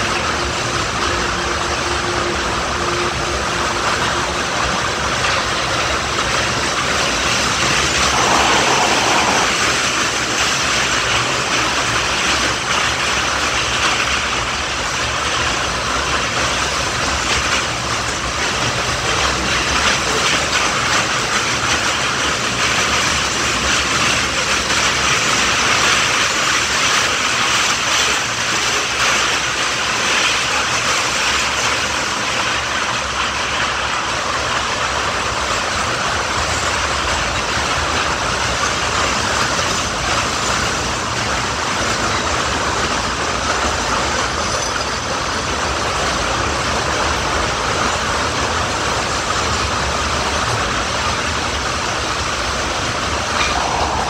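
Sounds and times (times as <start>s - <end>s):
train wheels on rails echoing: 0.0s - 54.0s.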